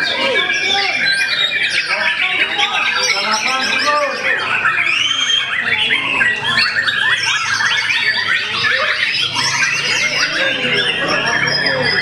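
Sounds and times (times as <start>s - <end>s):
birds singing rapid whistles and trills: 0.0s - 12.0s.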